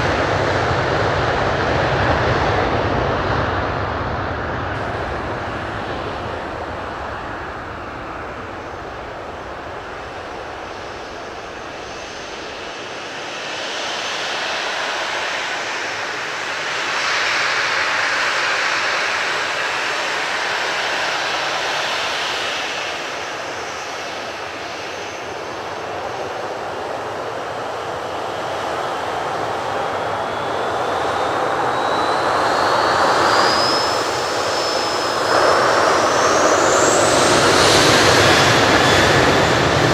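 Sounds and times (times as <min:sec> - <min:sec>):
jet engine hiss and rumble: 0:00.0 - 0:39.9
jet engine whine rising: 0:00.0 - 0:39.9.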